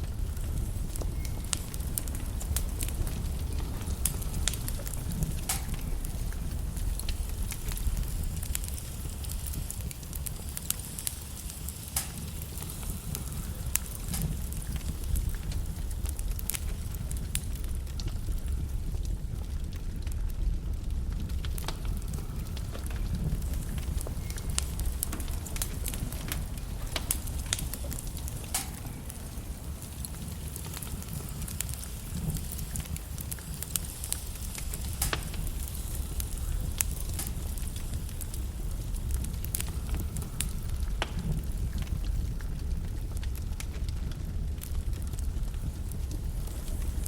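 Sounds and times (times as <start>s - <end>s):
log fire crackling: 0.0s - 47.0s.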